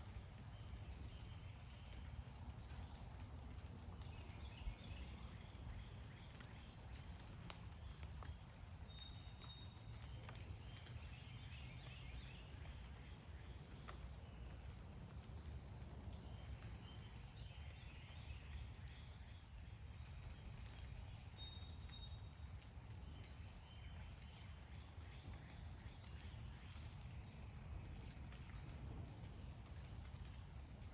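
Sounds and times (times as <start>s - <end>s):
birds chirping and twittering: 3.6s - 30.6s.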